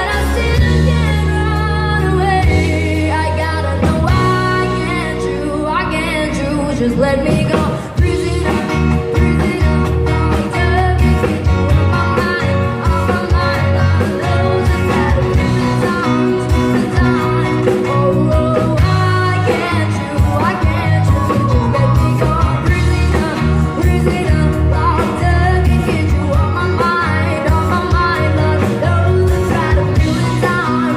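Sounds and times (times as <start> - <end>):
live band playing loud music: 0.0 - 30.9
person singing: 0.0 - 30.9.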